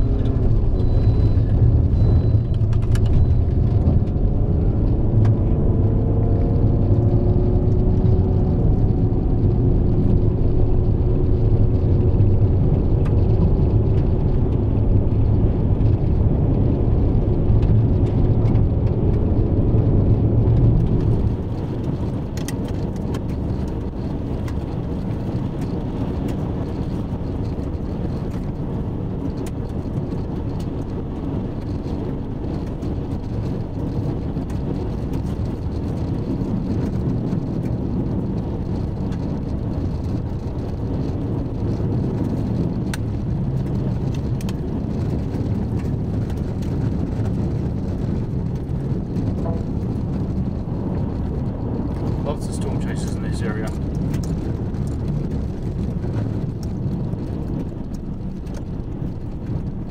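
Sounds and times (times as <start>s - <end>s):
vehicle rumbling on gravel: 0.0s - 59.9s.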